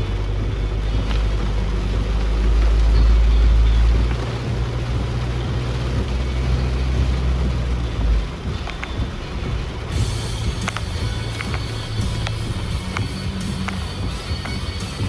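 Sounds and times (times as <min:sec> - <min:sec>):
rain and wet tyres hiss: 0:00.0 - 0:15.0
vehicle engine and road rumble: 0:00.0 - 0:15.0.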